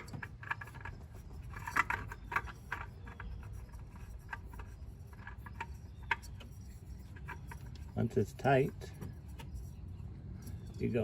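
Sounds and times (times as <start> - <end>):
oil filter scraping and clicking: 0.0 - 11.0.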